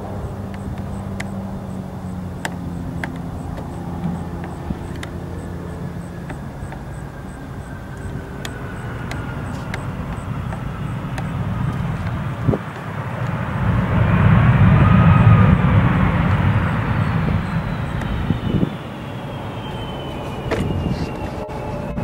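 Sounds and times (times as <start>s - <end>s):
jet engine whine and rumble: 0.0s - 22.0s.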